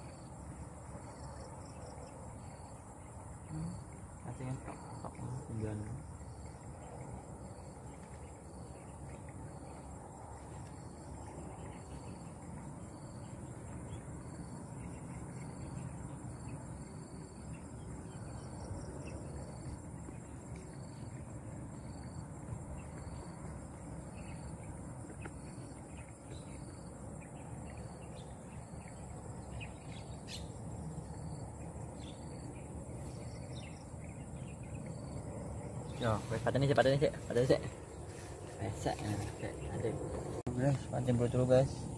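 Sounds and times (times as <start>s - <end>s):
insect chirp: 0.0s - 41.9s
insects droning high-pitched: 0.0s - 41.9s.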